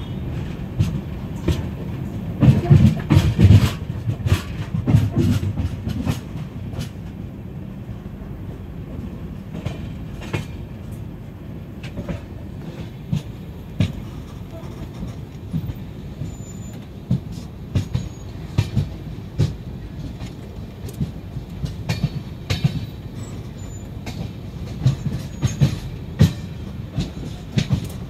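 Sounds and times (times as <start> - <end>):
train rumble with clicks: 0.0 - 28.0
train wheels clattering over rail joints: 0.0 - 28.0.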